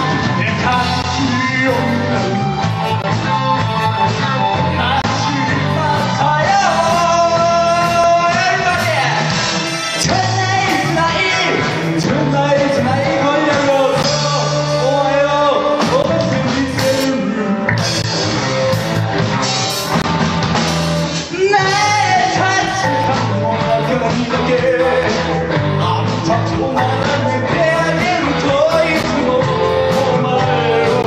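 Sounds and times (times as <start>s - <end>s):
man singing lead: 0.0s - 20.0s, 20.7s - 31.0s
drum kit: 0.0s - 31.0s
electric guitars: 0.0s - 31.0s
keyboard: 0.0s - 31.0s.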